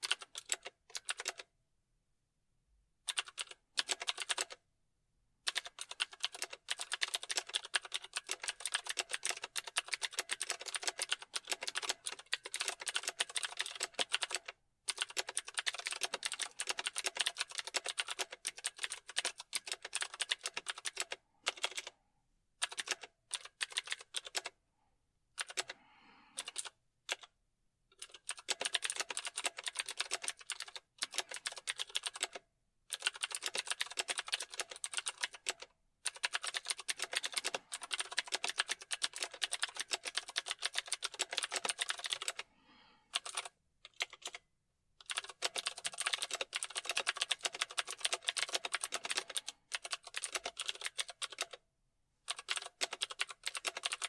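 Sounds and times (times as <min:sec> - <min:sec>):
fast typing on keyboard: 0:00.0 - 0:01.5, 0:03.1 - 0:04.6, 0:05.4 - 0:21.9, 0:22.6 - 0:24.6, 0:25.4 - 0:27.3, 0:28.0 - 0:42.5, 0:43.1 - 0:44.4, 0:45.0 - 0:51.6, 0:52.3 - 0:54.0.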